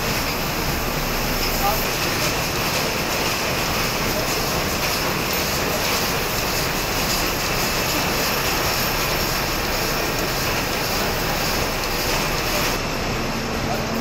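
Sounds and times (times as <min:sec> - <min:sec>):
factory machinery running: 0:00.0 - 0:14.0.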